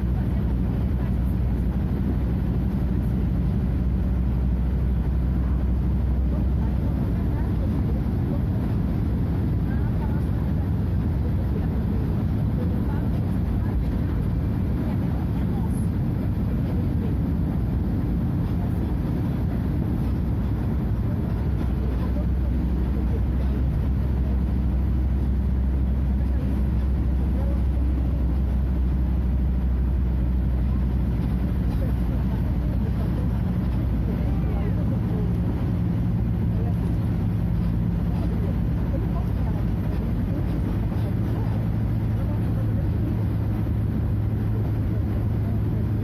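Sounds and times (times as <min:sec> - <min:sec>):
bus diesel engine running: 0:00.0 - 0:46.0.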